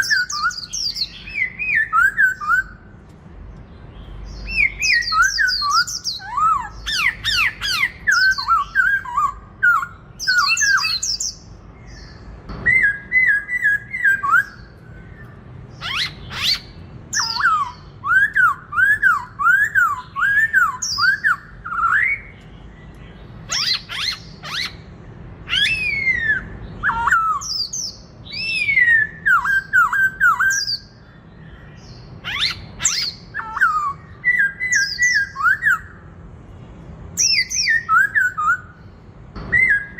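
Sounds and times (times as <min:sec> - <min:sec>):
bird singing slurred whistles: 0:00.0 - 0:02.8, 0:04.4 - 0:22.4, 0:25.5 - 0:31.0, 0:32.2 - 0:36.0, 0:37.2 - 0:38.8, 0:39.5 - 0:39.9.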